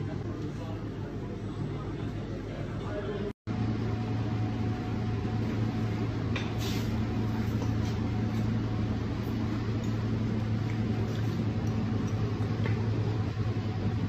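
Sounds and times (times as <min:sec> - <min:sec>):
kitchen extractor fan hum: 0:00.0 - 0:14.0.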